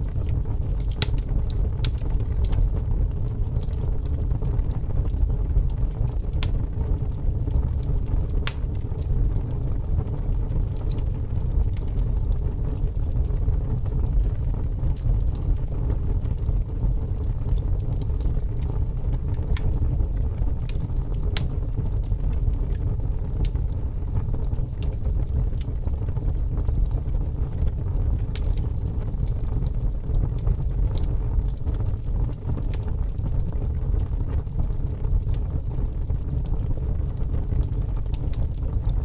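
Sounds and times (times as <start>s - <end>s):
fire crackles and pops: 0.0s - 39.0s
low rumble of flames: 0.0s - 39.0s.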